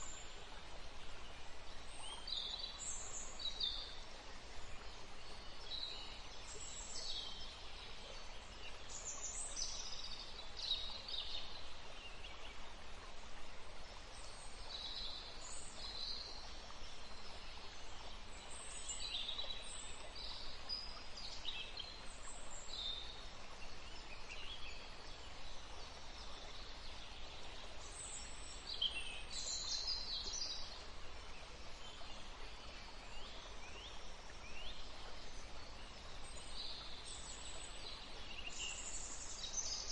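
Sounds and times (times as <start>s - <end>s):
low background hiss: 0.0s - 39.9s
songbirds chirping: 0.0s - 39.9s.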